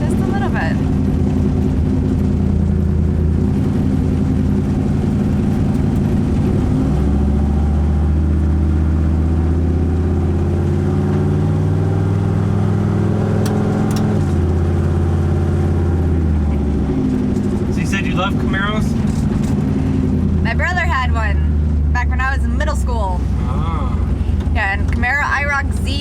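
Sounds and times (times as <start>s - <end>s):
car engine running from inside cabin: 0.0s - 26.0s.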